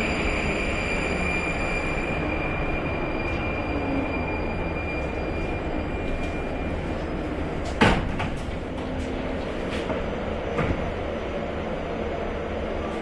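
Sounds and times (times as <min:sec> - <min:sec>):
metro train rumbling: 0:00.0 - 0:13.0.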